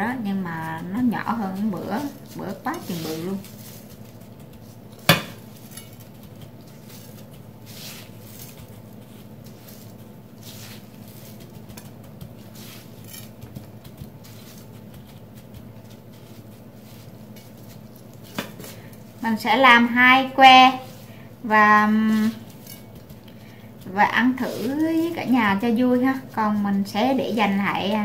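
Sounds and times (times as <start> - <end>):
steady low hum: 0.0 - 28.0
hands patting crumbs: 0.2 - 28.0.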